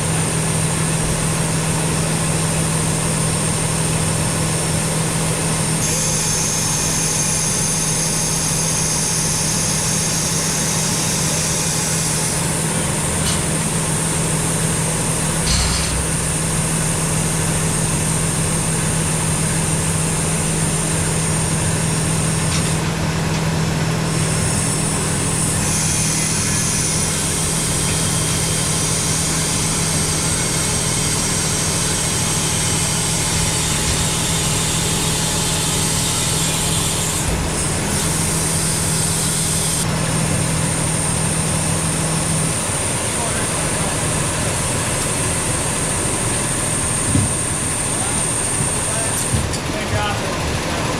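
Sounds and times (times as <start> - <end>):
engine idling: 9.2 - 50.9.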